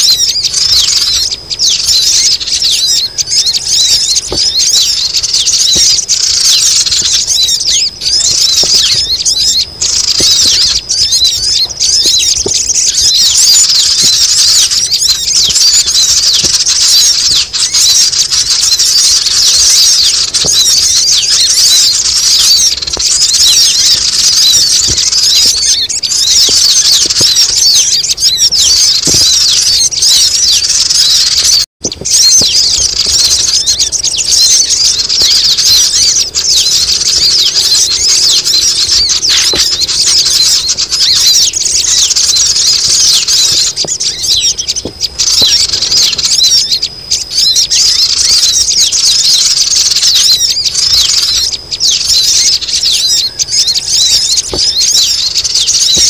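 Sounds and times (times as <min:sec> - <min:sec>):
flock of birds chirping: 0:00.0 - 0:56.0.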